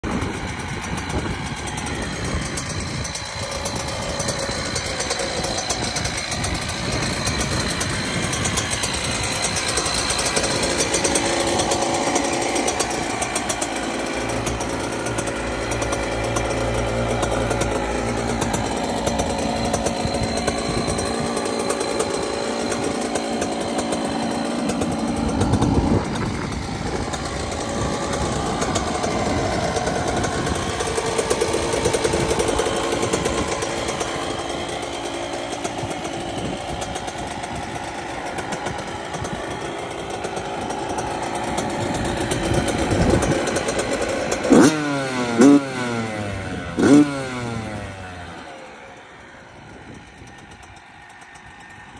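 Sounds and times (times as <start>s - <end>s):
two-stroke engine idling: 0.0s - 51.9s.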